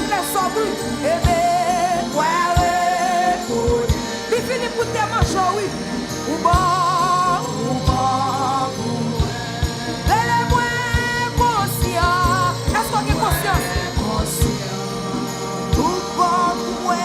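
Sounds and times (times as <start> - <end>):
band playing: 0.0 - 17.0
person singing with vibrato: 0.0 - 17.0.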